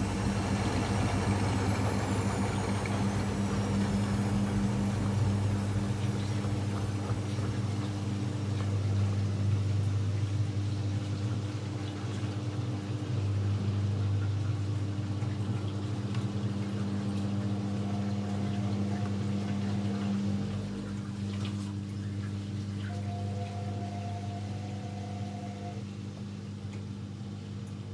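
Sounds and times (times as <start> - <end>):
water moving through machine: 0.0 - 25.9
washing machine humming: 0.0 - 27.9.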